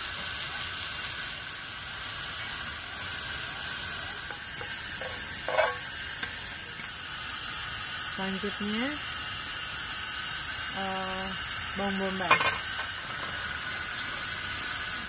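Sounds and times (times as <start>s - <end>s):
vegetables stir-frying in oil: 0.0s - 15.0s.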